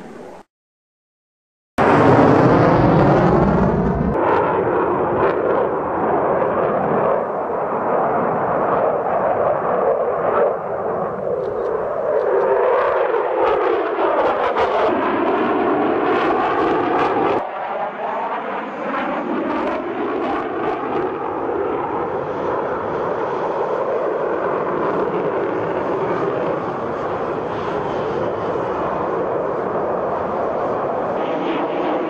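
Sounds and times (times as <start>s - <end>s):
jet fighter passing: 1.8s - 32.0s.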